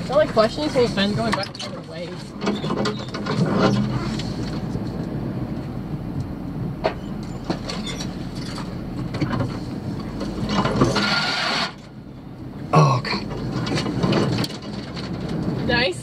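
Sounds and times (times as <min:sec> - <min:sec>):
branches scraping vehicle: 0:00.0 - 0:05.8, 0:07.0 - 0:16.0
vehicle body rattling: 0:00.0 - 0:05.8, 0:06.7 - 0:16.0
vehicle engine and tyres rumbling: 0:00.0 - 0:16.0.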